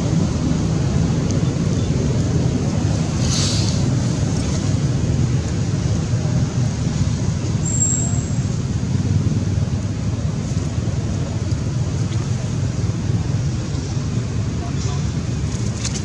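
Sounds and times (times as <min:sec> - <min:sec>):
low outdoor rumbling: 0:00.0 - 0:16.0.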